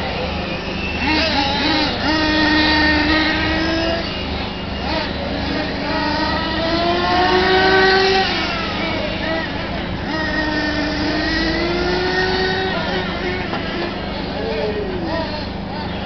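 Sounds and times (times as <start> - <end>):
radio-control car motors whining: 0.0 - 16.0.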